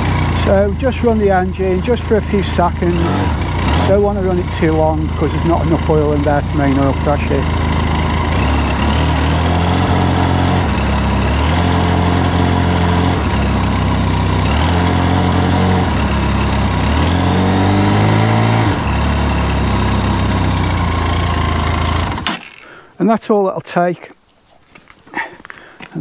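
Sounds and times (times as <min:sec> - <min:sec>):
motorcycle engine idling: 0:00.0 - 0:22.2.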